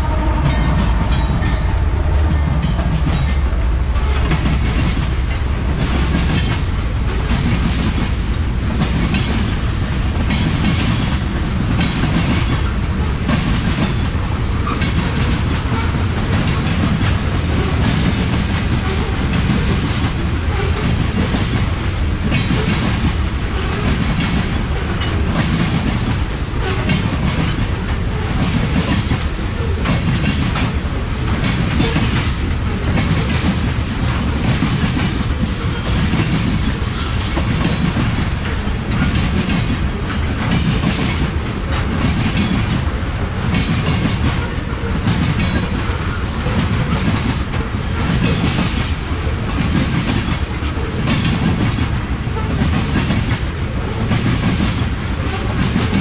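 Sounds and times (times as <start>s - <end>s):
train wheels rumbling on rails: 0.0s - 56.0s
wheels clickety-clack: 0.7s - 56.0s.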